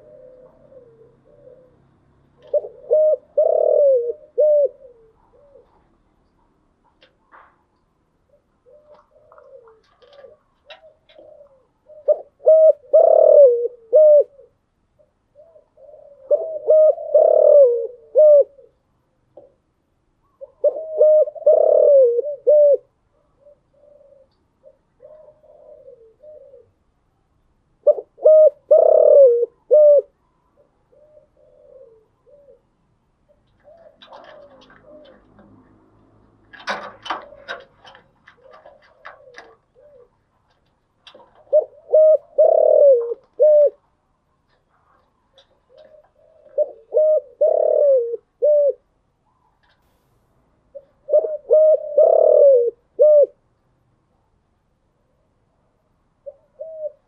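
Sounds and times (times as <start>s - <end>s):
dove cooing: 0.0s - 49.8s, 50.7s - 53.5s, 54.9s - 57.0s.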